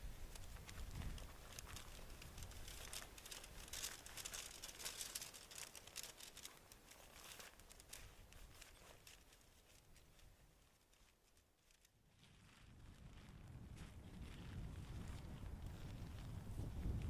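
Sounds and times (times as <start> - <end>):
crinkling and rustling: 0.0 - 17.0.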